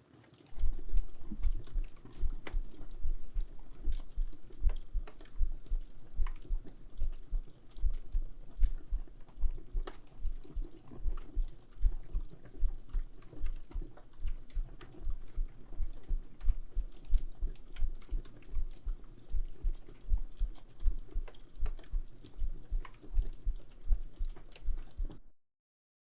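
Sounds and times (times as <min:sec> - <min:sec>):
wood fire crackling: 0:00.3 - 0:25.2
heartbeat thumping: 0:00.6 - 0:25.2.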